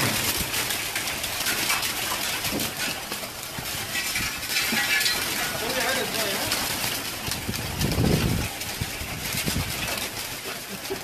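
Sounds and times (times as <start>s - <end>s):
pigeons flapping wings: 0.0s - 11.0s.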